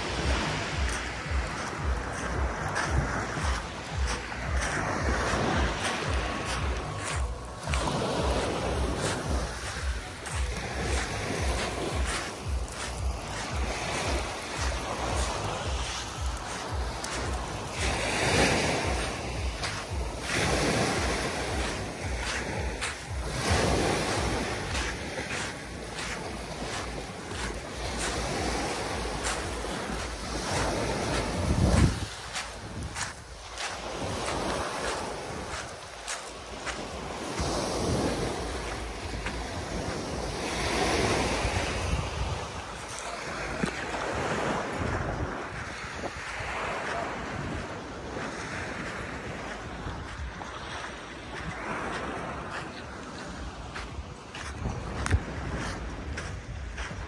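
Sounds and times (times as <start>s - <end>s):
waves washing on pebble beach: 0.0s - 57.0s
wind rumbling on microphone: 0.0s - 57.0s.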